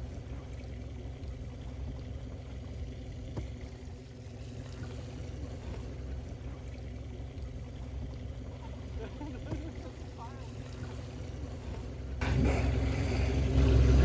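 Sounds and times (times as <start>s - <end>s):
outboard motor idling: 0.0s - 14.0s
water lapping: 0.0s - 14.0s.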